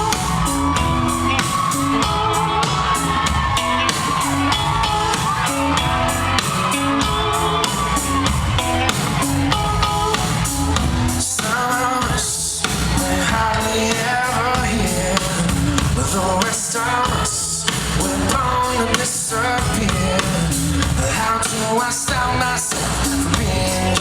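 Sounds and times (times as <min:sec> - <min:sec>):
live rock band: 0:00.0 - 0:24.0.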